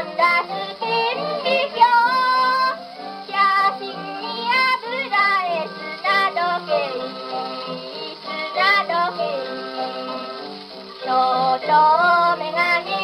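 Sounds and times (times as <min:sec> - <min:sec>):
child singing on old record: 0:00.0 - 0:13.0.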